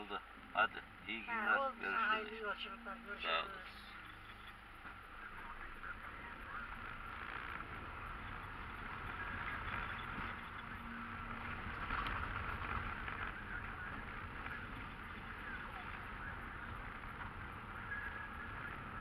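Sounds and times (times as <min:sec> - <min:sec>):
car engine running low: 0:00.0 - 0:19.0.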